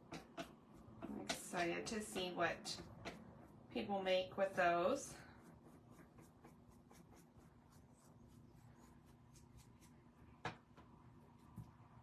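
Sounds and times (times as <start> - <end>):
paintbrush strokes: 0.2 - 10.4.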